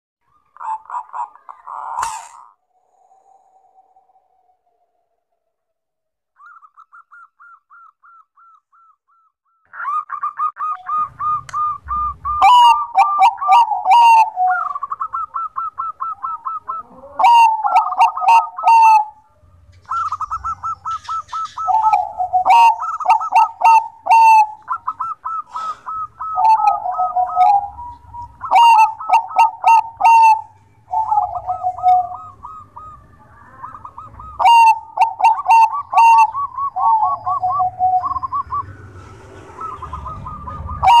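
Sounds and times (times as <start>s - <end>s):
dove cooing: 0.3s - 4.8s, 6.4s - 41.0s.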